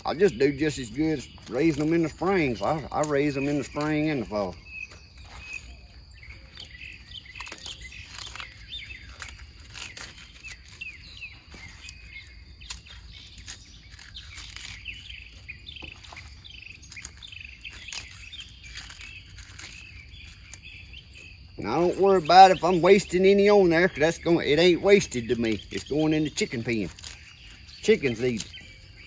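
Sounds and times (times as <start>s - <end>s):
high insect hum: 0.0s - 29.0s
leaves snapping and tearing: 0.0s - 29.0s
small birds chirping: 0.0s - 29.0s.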